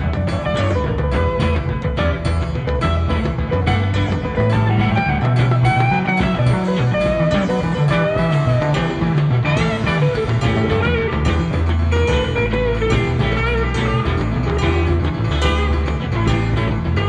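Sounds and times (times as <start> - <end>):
bass line: 0.0 - 17.0
guitar music: 0.0 - 17.0.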